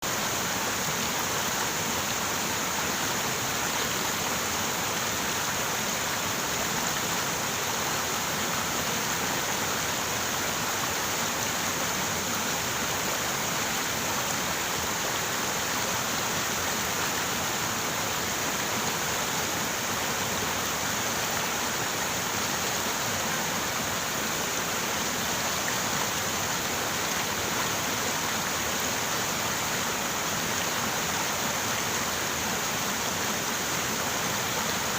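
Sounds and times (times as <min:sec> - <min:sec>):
river water rushing over rocks: 0:00.0 - 0:34.9.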